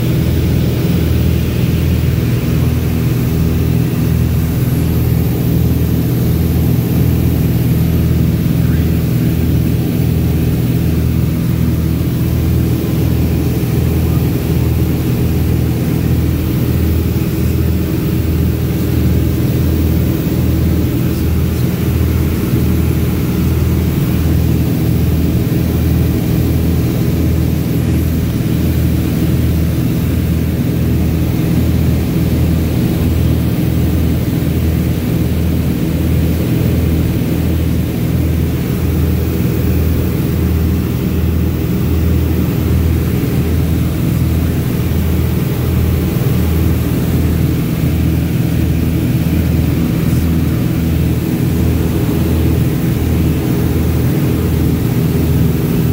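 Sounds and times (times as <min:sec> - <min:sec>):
light airplane engine droning: 0:00.0 - 0:55.9.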